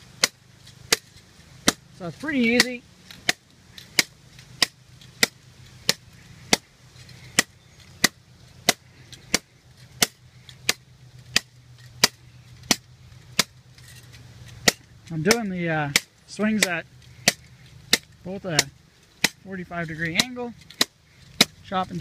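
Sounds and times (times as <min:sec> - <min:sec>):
hatchet chopping into tree: 0:00.1 - 0:06.7, 0:07.3 - 0:13.6, 0:14.6 - 0:21.9.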